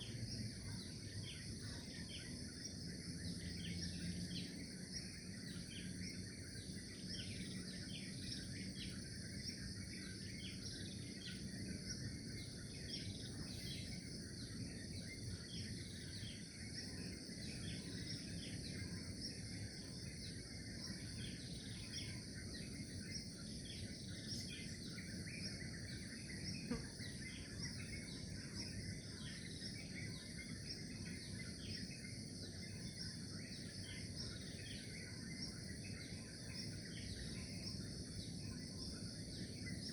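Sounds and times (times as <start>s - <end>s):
high insect trill: 0.0s - 39.9s
low background hiss: 0.0s - 39.9s
small birds chirping: 0.0s - 39.9s.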